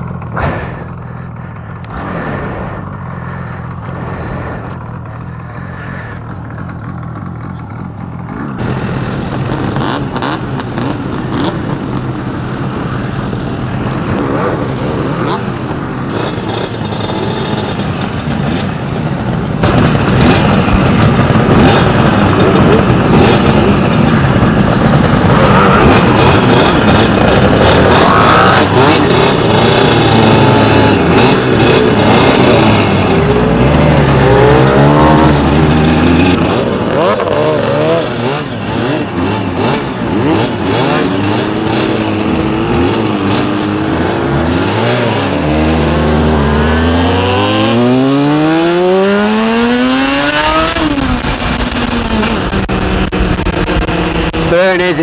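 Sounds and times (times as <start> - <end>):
motorcycles revving and accelerating: 0.0 - 55.0.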